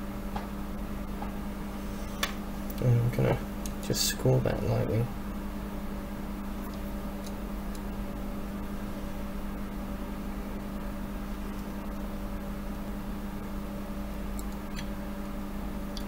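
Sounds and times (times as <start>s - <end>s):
workshop equipment humming: 0.0s - 16.0s.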